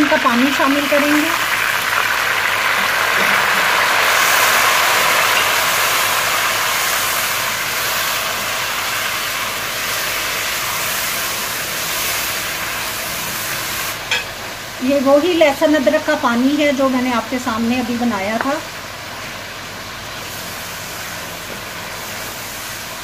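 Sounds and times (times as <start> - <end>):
meat and onions sizzling in oil: 0.0 - 23.0.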